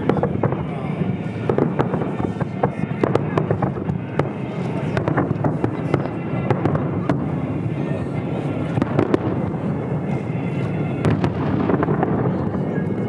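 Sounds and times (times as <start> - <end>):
fireworks crackling and rumbling: 0.0 - 13.0
fireworks sharp bangs: 0.0 - 13.0.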